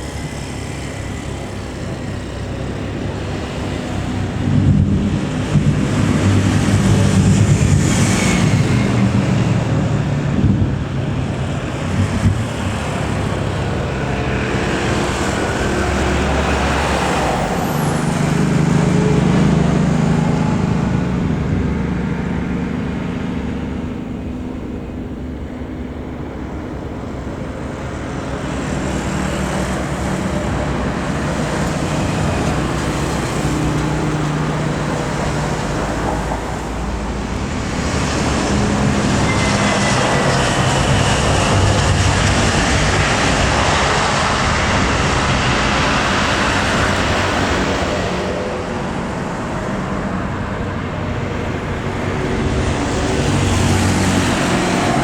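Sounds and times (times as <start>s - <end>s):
engines and road traffic roar: 0.0s - 55.0s.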